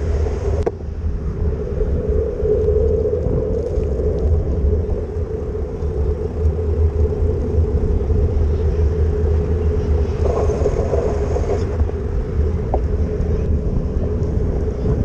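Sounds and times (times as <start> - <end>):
constant hum: 0.0 - 15.0
traffic noise: 0.0 - 15.0
wind buffeting microphone: 0.0 - 15.0.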